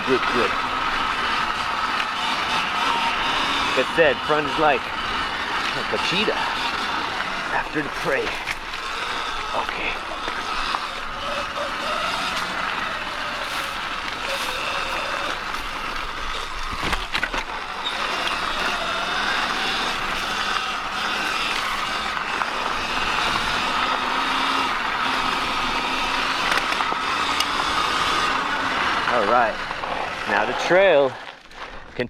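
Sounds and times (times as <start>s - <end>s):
electric motor whine: 0.0s - 31.9s
steady rush of riding noise: 0.0s - 32.0s.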